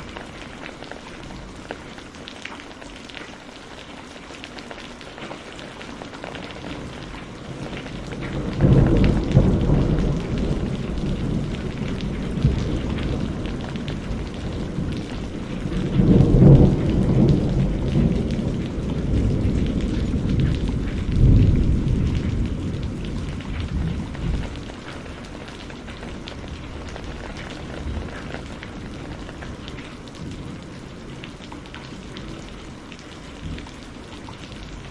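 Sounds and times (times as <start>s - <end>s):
rain pouring: 0.0s - 34.9s
thunder rumbling: 6.5s - 34.9s.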